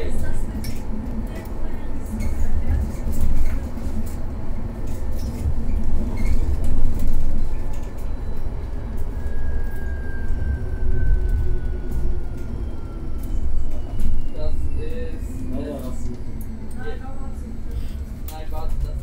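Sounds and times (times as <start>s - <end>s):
bus road noise rumble: 0.0s - 19.0s.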